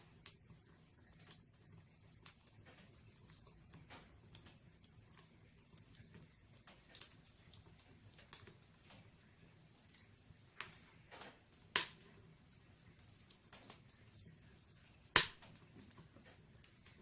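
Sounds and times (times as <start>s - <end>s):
sharp pops from burning logs: 0.0s - 17.0s
wood fire crackling: 0.0s - 17.0s.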